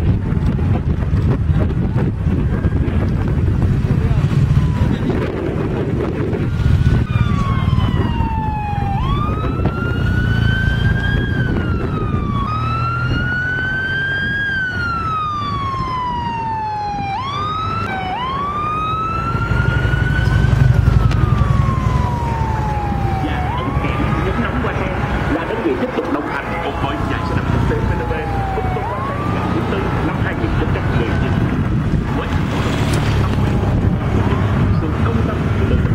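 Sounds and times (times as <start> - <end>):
road traffic rumble: 0.0 - 35.9
siren wailing: 2.3 - 3.2, 4.0 - 35.9
siren yelp: 2.3 - 3.2, 4.2 - 32.5.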